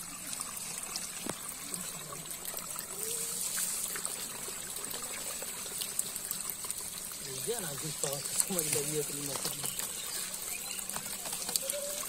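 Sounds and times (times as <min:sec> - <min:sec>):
small fish splashing: 0:00.0 - 0:12.0
water trickling and pattering: 0:00.0 - 0:12.0.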